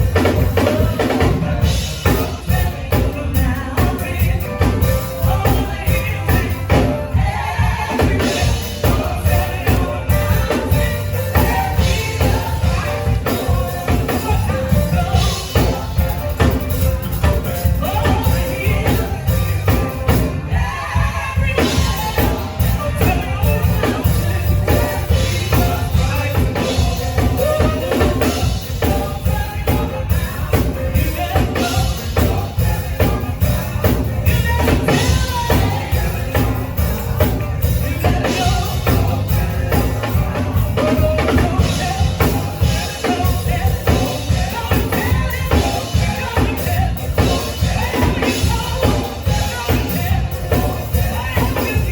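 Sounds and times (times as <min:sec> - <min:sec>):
drum kit: 0:00.0 - 0:51.9
heavy bass line: 0:00.0 - 0:51.9
live band music: 0:00.0 - 0:51.9
person singing: 0:00.0 - 0:51.9.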